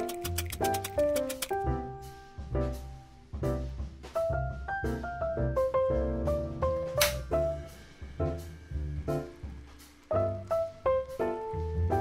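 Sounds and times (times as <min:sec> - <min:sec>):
light jazzy piano music: 0:00.0 - 0:12.0.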